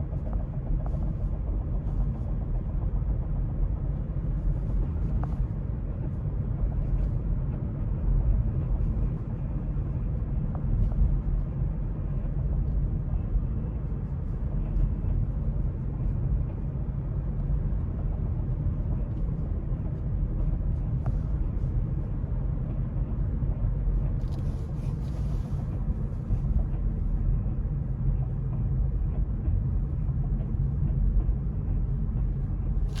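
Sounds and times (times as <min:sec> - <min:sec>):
car low rumble: 0:00.0 - 0:33.0.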